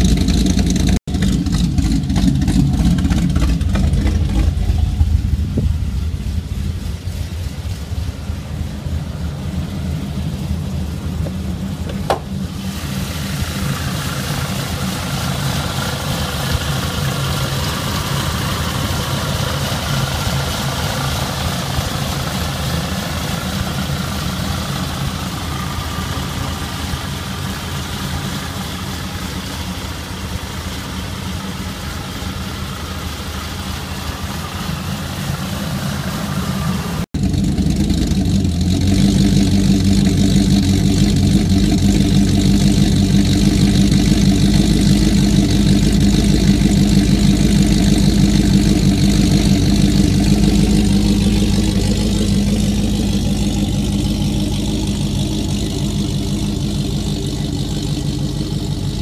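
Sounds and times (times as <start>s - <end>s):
car engine idling with lope: 0.0s - 59.0s
supercharger whine: 0.0s - 59.0s.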